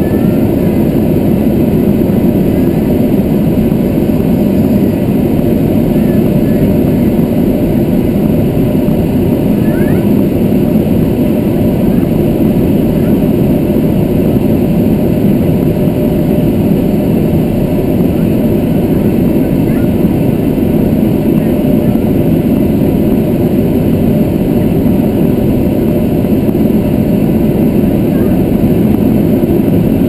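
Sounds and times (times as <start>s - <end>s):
light aircraft engine drone: 0.0s - 30.0s
rushing air: 0.0s - 30.0s.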